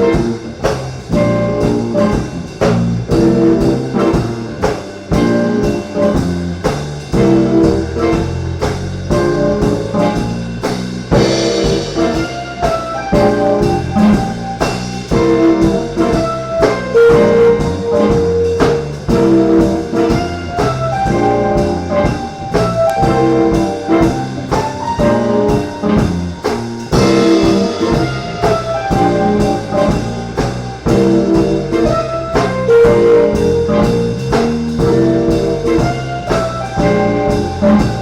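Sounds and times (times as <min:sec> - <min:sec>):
brass section playing jazz: 0:00.0 - 0:38.0
drum kit beat: 0:00.0 - 0:38.0.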